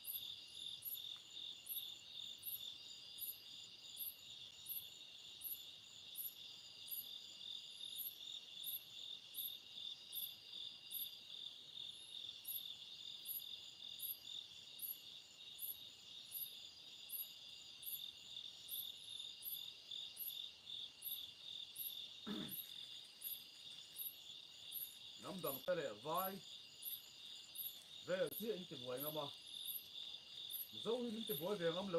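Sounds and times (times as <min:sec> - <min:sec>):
sharp high insect chirp: 0:00.0 - 0:11.2, 0:11.8 - 0:31.9
crickets trilling: 0:00.0 - 0:31.9.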